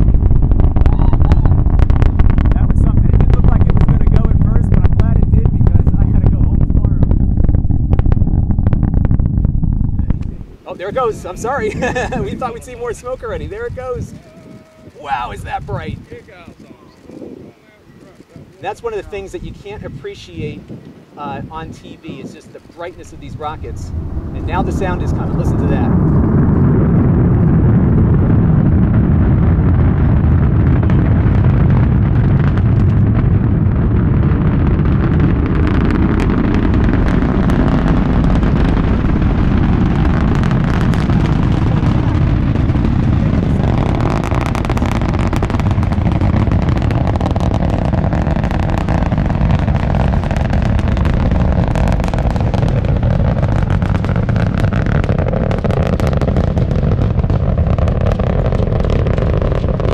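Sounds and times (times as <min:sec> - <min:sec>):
rocket engines rumbling and crackling: 0:00.0 - 0:59.9.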